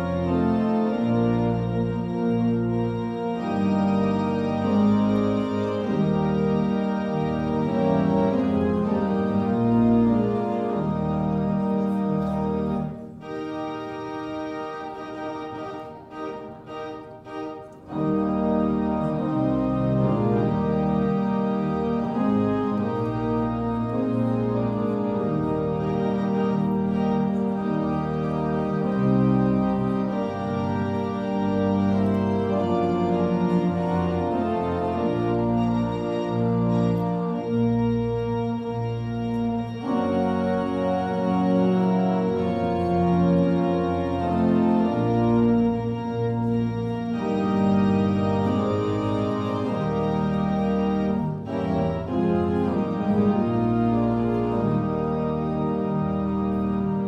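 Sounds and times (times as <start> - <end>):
organ playing full chords: 0.0 - 57.0.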